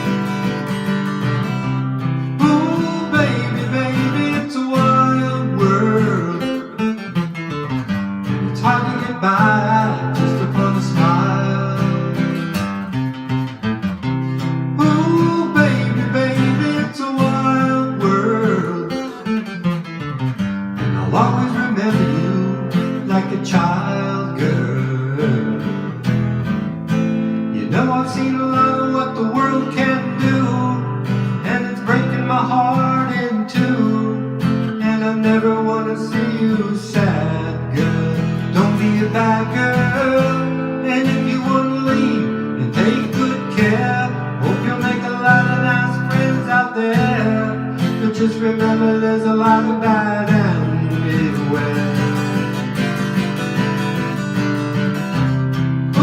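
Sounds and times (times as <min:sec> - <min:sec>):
acoustic guitar strumming: 0:00.0 - 0:56.0
person singing: 0:02.2 - 0:07.2, 0:08.5 - 0:12.7, 0:14.8 - 0:19.6, 0:20.8 - 0:26.1, 0:27.5 - 0:53.2.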